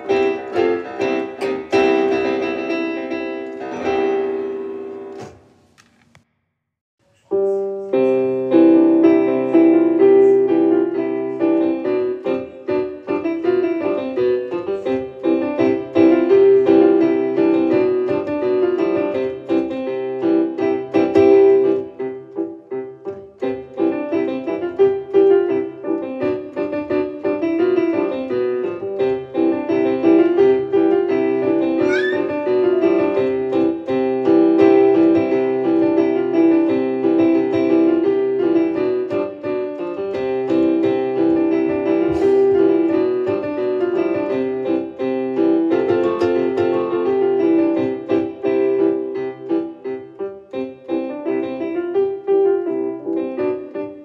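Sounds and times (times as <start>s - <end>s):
solo piano music: 0.0s - 5.5s, 7.2s - 54.0s.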